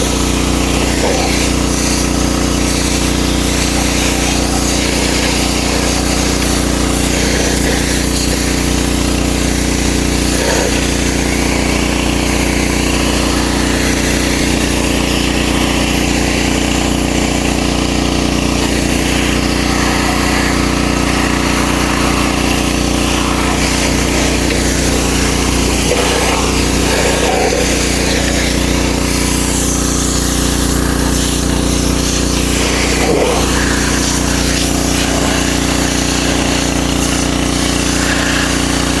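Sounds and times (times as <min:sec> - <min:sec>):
high-pressure water jet hissing: 0:00.0 - 0:39.0
pressure washer engine running: 0:00.0 - 0:39.0.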